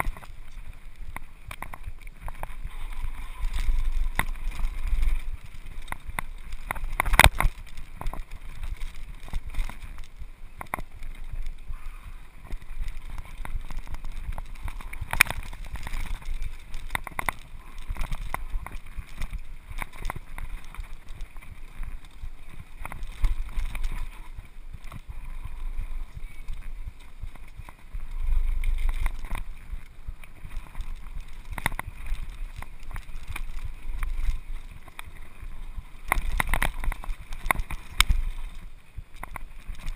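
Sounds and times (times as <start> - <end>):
mountain bike rattling: 0.0 - 39.9
wind buffeting microphone: 0.0 - 39.9.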